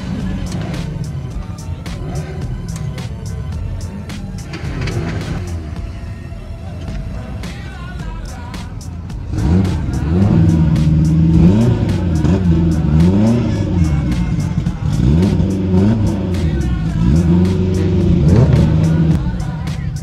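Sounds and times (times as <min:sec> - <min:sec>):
car engine revving: 0:00.0 - 0:20.0
music with steady beat: 0:00.0 - 0:20.0.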